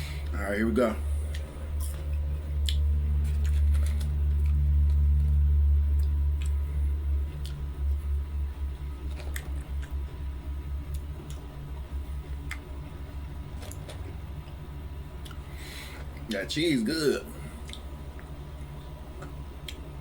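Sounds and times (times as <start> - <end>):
low rumble: 0.0 - 16.3
man chewing food: 1.0 - 16.3, 17.3 - 20.0.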